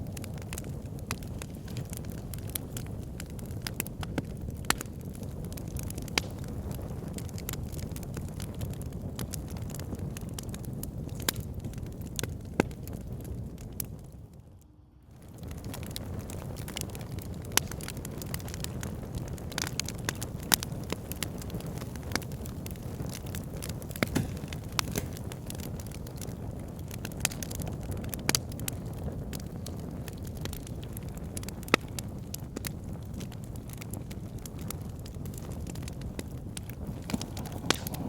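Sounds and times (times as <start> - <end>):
fire crackling and popping: 0.0 - 38.0.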